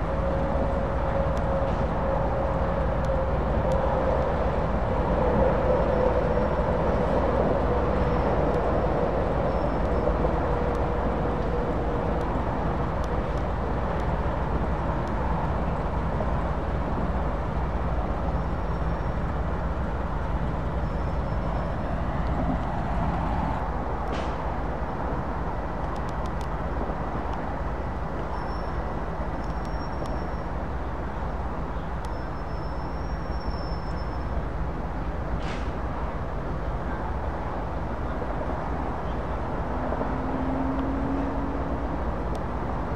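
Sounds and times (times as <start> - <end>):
diesel engine rumbling: 0.0 - 42.9.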